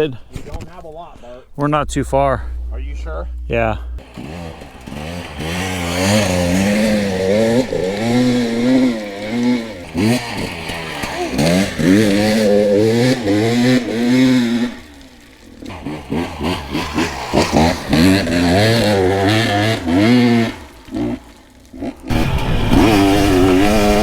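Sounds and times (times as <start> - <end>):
dirt bike engine revving: 0.7 - 24.0.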